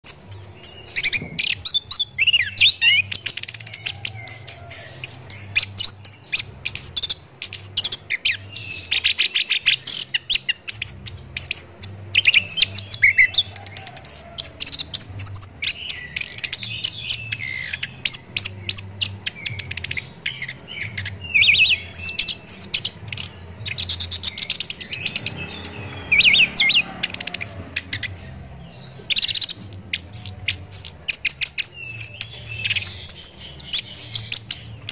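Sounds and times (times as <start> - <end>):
thrush singing whistles and trills: 0.0 - 34.9.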